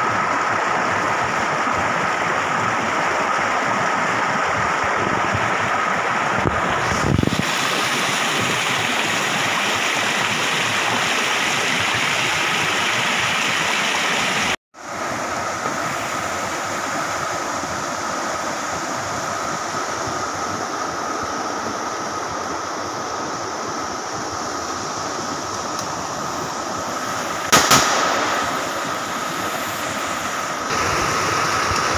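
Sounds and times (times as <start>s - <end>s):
stream rushing over rocks: 0.0s - 31.9s.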